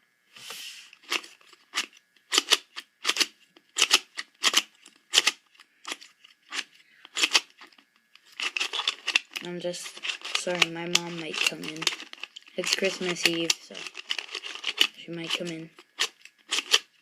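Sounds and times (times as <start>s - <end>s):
hand rubbing puzzle cube: 0.4s - 17.0s
puzzle cube layers clicking: 2.3s - 7.6s, 8.4s - 17.0s.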